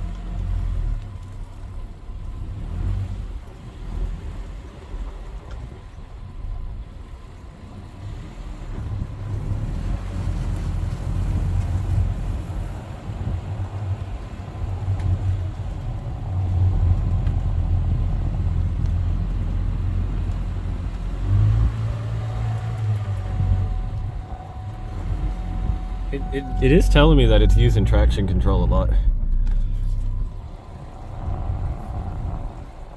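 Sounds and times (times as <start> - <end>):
vehicle engine rumbling: 0.0 - 32.9.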